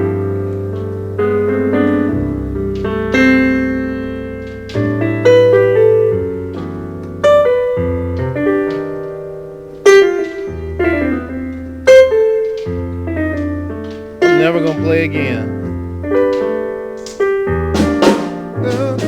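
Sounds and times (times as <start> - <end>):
piano chords with low bass: 0.0 - 19.0.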